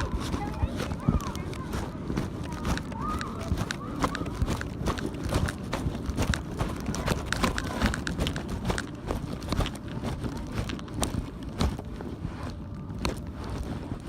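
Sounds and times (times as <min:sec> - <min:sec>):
footsteps: 0:00.0 - 0:14.0
steady low rumble: 0:00.0 - 0:14.0.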